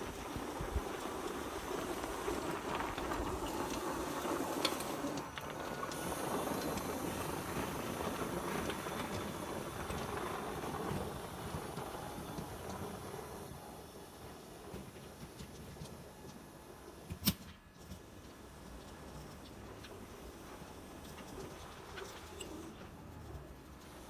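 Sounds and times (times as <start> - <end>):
hiss: 0.0 - 22.7.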